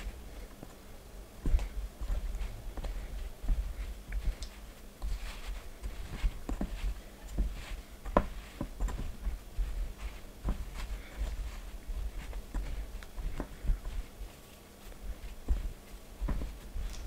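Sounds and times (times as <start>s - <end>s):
hands kneading dough: 0.0s - 17.0s.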